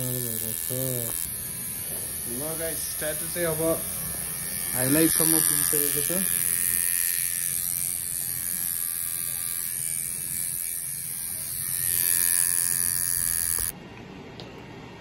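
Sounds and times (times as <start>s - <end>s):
tattoo machine buzzing: 0.0s - 13.7s.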